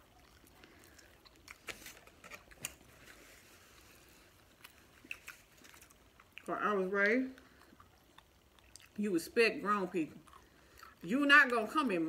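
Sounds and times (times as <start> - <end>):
person chewing crunchy food: 0.0 - 9.0, 10.1 - 11.6.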